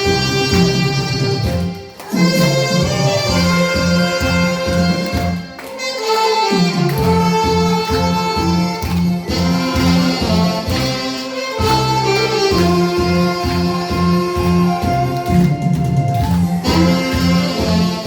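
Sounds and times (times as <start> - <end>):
backing track with steady beat: 0.0 - 18.0
saxophone melody: 0.0 - 18.0.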